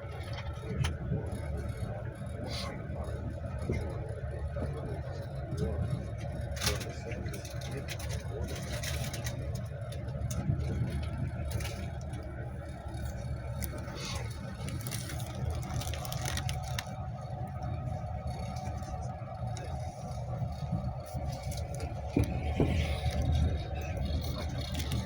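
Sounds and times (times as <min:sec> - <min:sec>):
train wheels rumbling on rails: 0:00.0 - 0:25.0
small clicks and rattles: 0:04.6 - 0:25.0.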